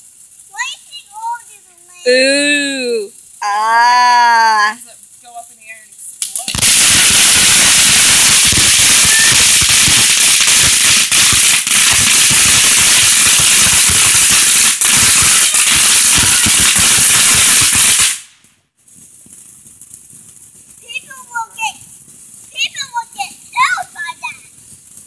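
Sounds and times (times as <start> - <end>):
rapid firework popping: 0.0 - 2.1, 5.0 - 25.0
firework fountain hissing: 0.0 - 25.0.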